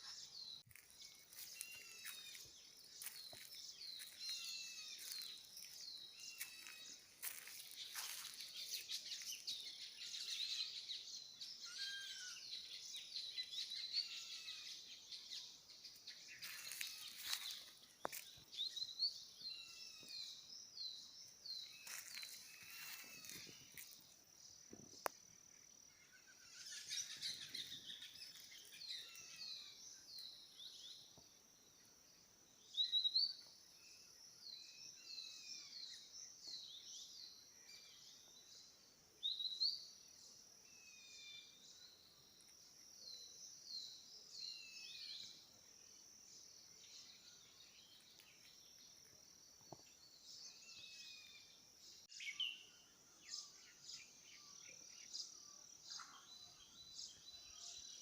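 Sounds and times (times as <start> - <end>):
insect drone: 0.0 - 58.0
songbirds chirping: 0.0 - 58.0.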